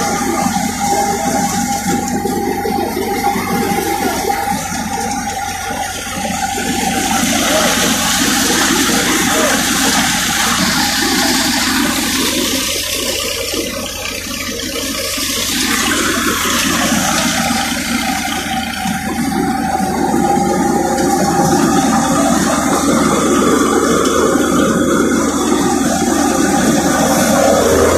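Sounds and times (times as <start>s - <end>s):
steady machine whine: 0.0s - 27.9s
thresher rushing of straw: 0.0s - 27.9s.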